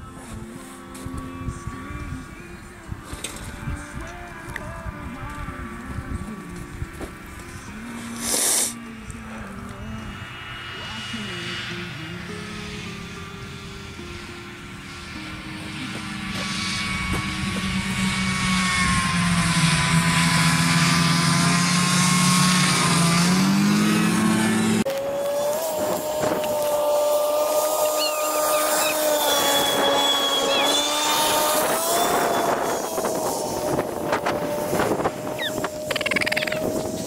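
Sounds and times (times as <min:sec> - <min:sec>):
low engine drone: 0:00.0 - 0:37.0
snowmobile engine running: 0:04.7 - 0:37.0.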